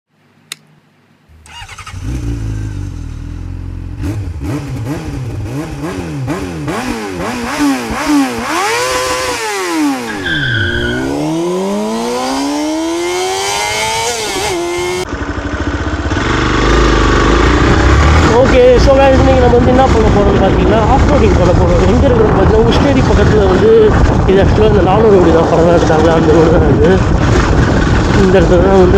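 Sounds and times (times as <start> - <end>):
motorcycle engine revving: 1.3 - 28.9.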